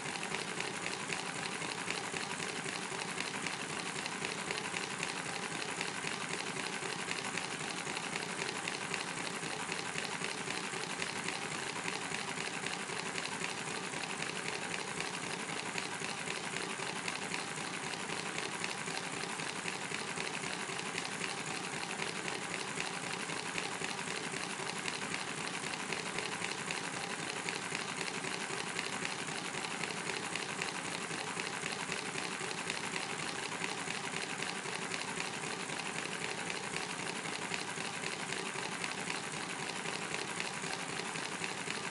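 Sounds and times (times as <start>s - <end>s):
miniature engine clattering: 0.0s - 41.9s.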